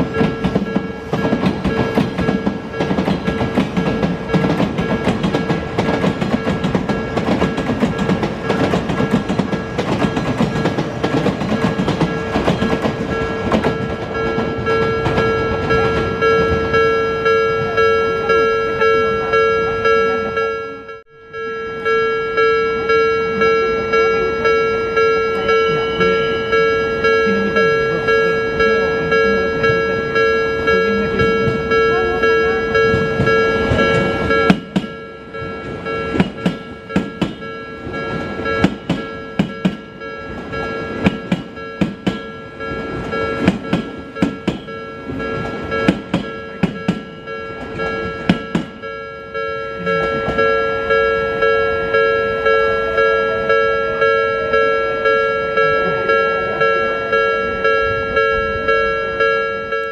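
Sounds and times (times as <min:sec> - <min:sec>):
train rumbling past: 0:00.0 - 0:19.0, 0:21.3 - 0:59.8
level crossing alarm ringing: 0:00.0 - 0:59.9.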